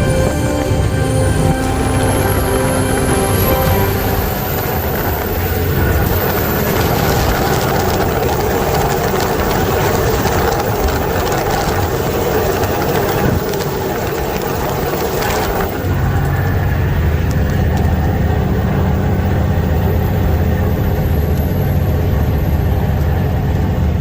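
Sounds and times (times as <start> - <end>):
diesel truck engine running: 0.0 - 24.0
road and drivetrain noise: 0.0 - 24.0.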